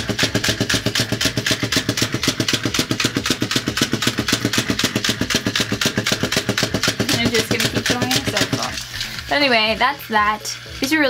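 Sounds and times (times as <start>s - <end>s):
toy dog clicking clatter: 0.1s - 9.1s.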